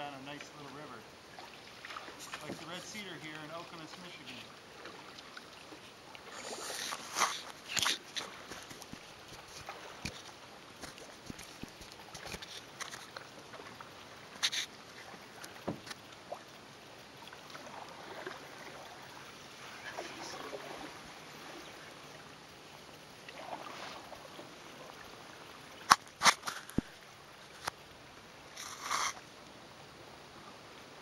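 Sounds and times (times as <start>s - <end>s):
paddle strokes in water: 0.0s - 27.8s, 28.4s - 29.3s.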